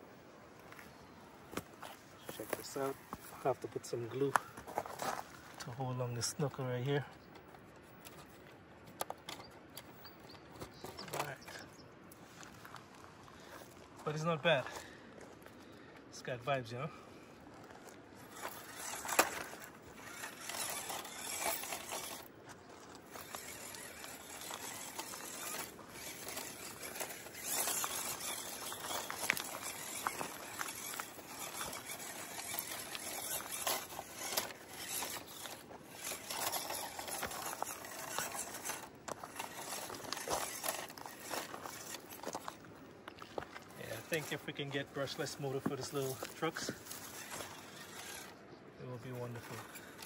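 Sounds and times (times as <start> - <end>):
tyres and chassis clicks and scrapes: 1.5 - 16.8, 17.4 - 50.0
toy truck motor and gears running: 2.3 - 7.1, 8.0 - 11.8, 17.4 - 42.7, 43.6 - 50.0.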